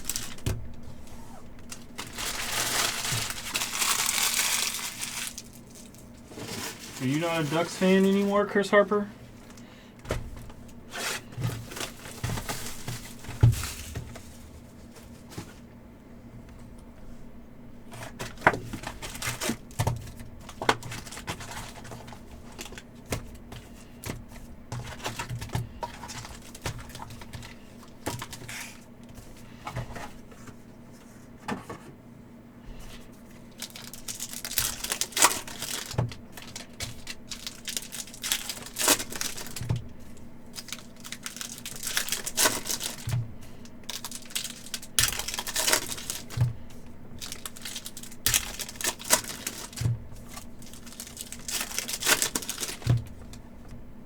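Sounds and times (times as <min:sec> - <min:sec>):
wrappers crinkling and tearing: 0:00.0 - 0:09.7, 0:10.9 - 0:15.3, 0:17.9 - 0:24.1, 0:24.7 - 0:28.9, 0:33.2 - 0:53.4.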